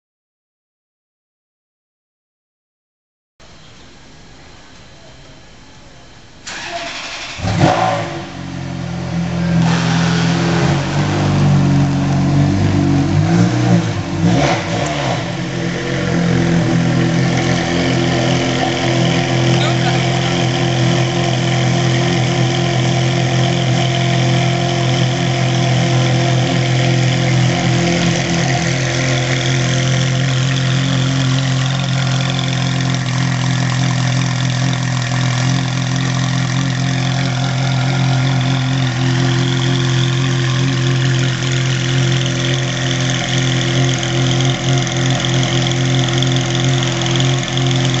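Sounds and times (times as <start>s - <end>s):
car engine idling: 4.2s - 48.0s.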